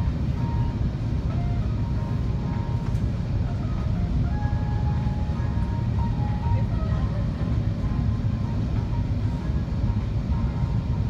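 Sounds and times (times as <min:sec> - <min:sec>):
aircraft cabin engine rumble: 0:00.0 - 0:11.0
faint music over cabin speaker: 0:00.0 - 0:11.0.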